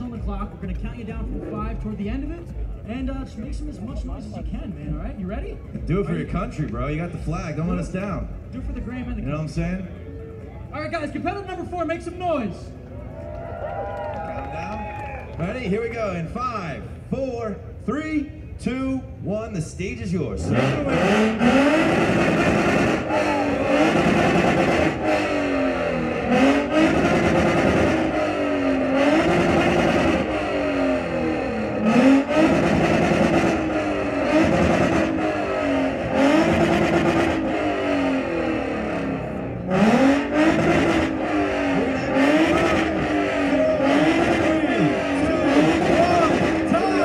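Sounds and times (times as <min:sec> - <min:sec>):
car engine revving: 0:00.0 - 0:10.0, 0:19.2 - 0:47.0.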